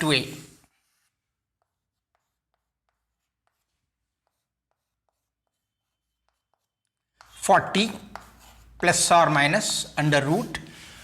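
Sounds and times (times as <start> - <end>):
pen writing: 0.7 - 9.9.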